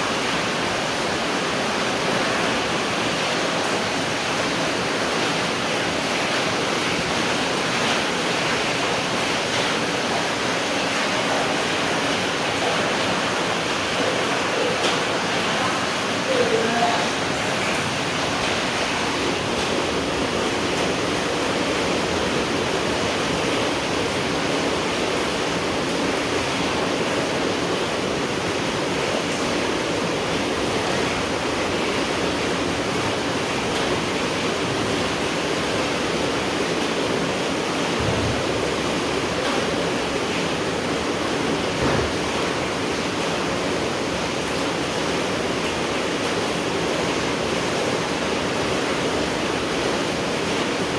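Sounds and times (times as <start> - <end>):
steady rain hissing: 0.0 - 50.9.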